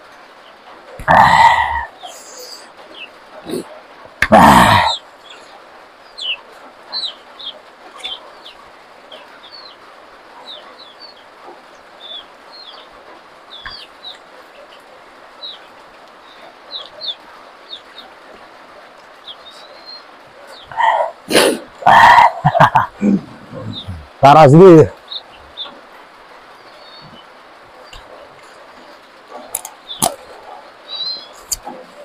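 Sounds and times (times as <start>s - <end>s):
background hiss: 0.0s - 32.0s
birds chirping: 0.0s - 32.0s.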